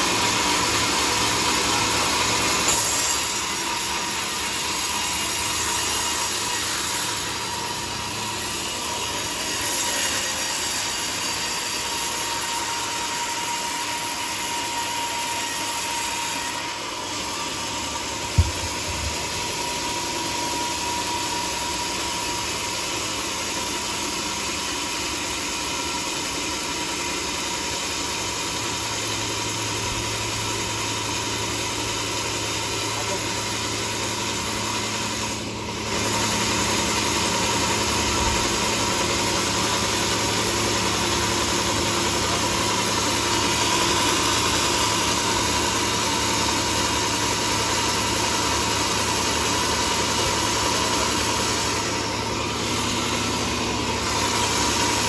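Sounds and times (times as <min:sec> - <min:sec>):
band sawmill droning: 0:00.0 - 0:55.0
high sawmill whine: 0:00.0 - 0:55.0.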